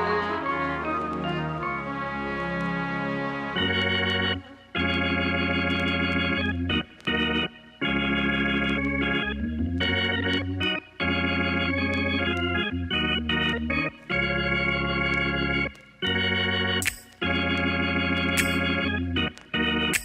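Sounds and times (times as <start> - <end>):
music with sustained chords and bass: 0.0 - 20.0.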